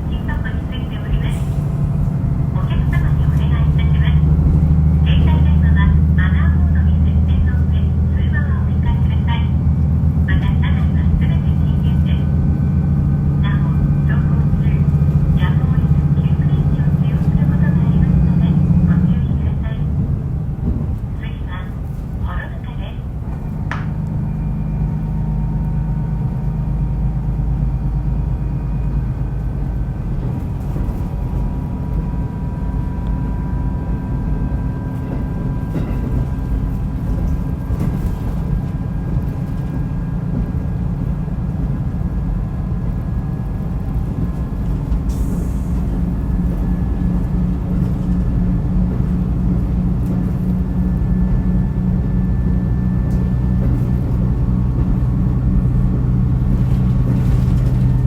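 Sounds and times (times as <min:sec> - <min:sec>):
diesel railcar engine drone: 0:00.0 - 0:58.0
train wheels running on rails: 0:00.0 - 0:58.0.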